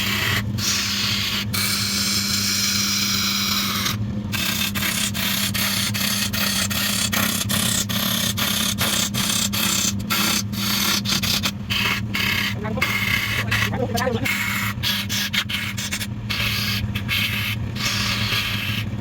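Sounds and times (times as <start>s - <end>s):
tool rasping on spinning wood: 0.0s - 19.0s
wood lathe humming: 0.0s - 19.0s.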